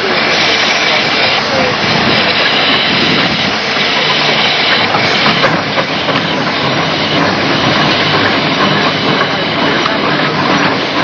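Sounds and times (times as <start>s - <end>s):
steam engine running: 0.0s - 11.0s
steam hissing: 0.0s - 11.0s.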